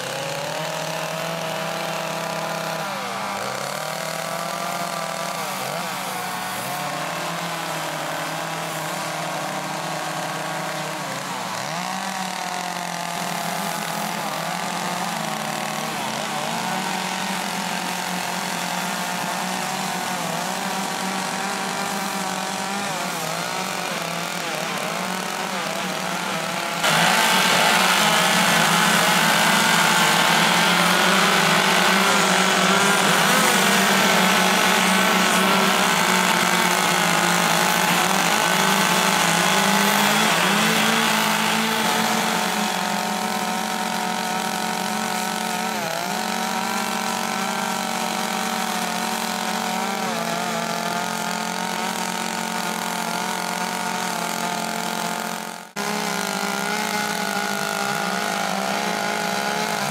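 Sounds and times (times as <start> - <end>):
chainsaws revving cutting wood: 0.0 - 59.9.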